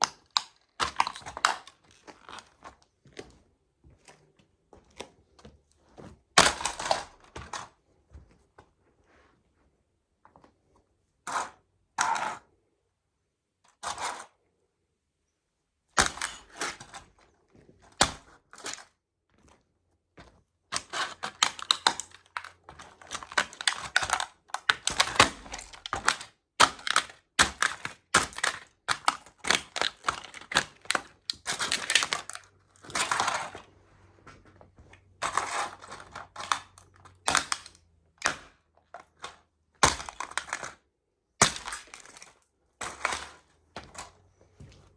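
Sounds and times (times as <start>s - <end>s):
toy trucks cracking underfoot: 0.0s - 7.8s, 16.0s - 44.9s.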